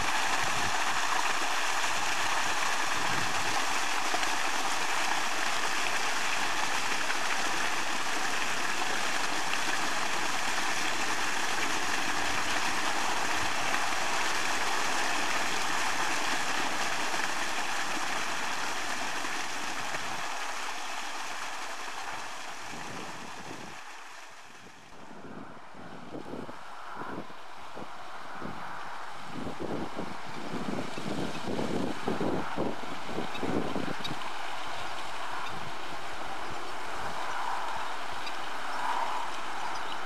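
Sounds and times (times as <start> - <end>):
running water rushing: 0.0 - 25.2, 26.3 - 40.0.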